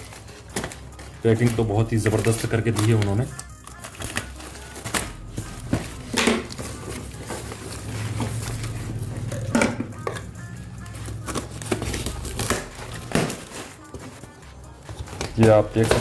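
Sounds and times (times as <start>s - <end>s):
packaging knocks and rustles: 0.0s - 10.3s, 11.0s - 16.0s
background music: 0.0s - 16.0s.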